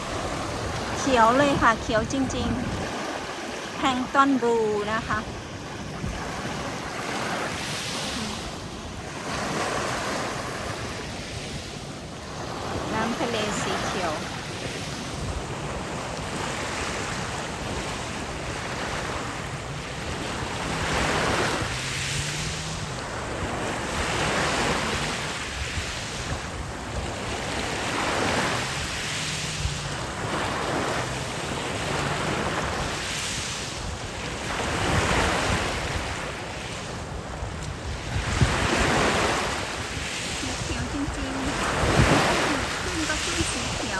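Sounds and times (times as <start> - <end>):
sea waves breaking on beach: 0.0 - 43.9
wind rumbling on microphone: 0.0 - 43.9.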